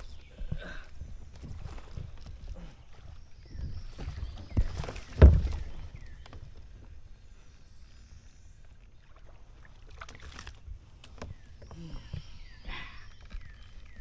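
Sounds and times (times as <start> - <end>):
water and hull noise: 0.0 - 14.0.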